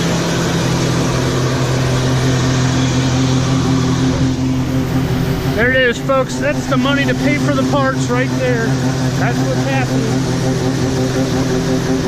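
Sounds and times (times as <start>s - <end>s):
farm vehicle engine droning: 0.0s - 12.0s.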